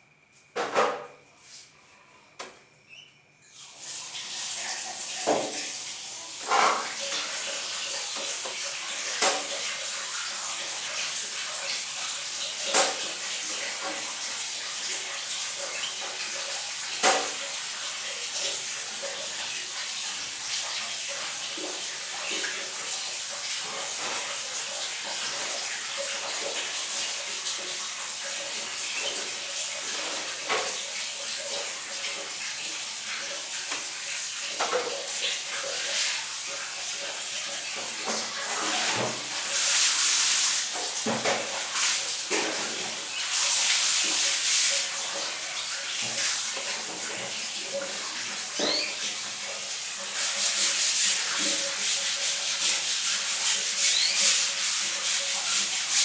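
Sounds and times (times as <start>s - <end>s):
water running in bathroom: 0.0s - 56.0s.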